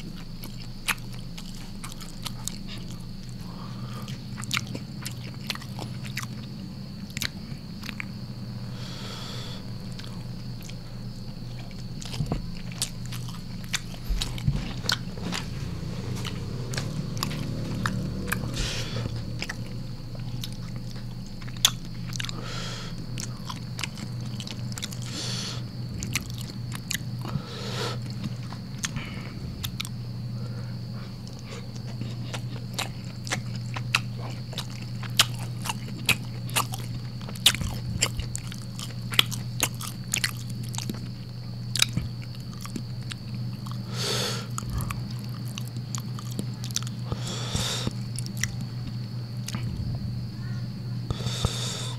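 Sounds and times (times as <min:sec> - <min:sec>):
person chewing and smacking: 0:00.0 - 0:30.3, 0:30.9 - 0:49.9
steady low hum: 0:00.0 - 0:51.9.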